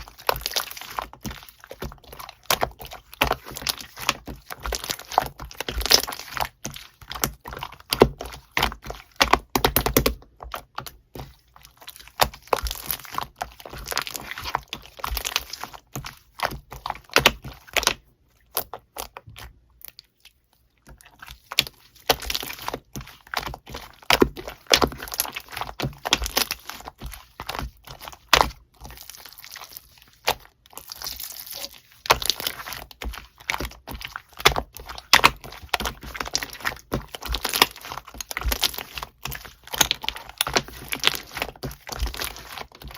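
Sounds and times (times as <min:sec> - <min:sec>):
slime squished by hand: 0:00.0 - 0:42.9.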